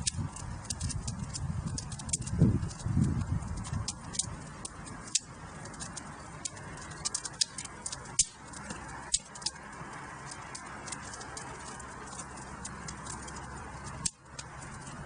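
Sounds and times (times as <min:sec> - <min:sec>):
sharp pops and snaps: 0:00.0 - 0:15.0
soft hiss of burning: 0:00.0 - 0:15.0
wood fire crackling: 0:00.0 - 0:15.0.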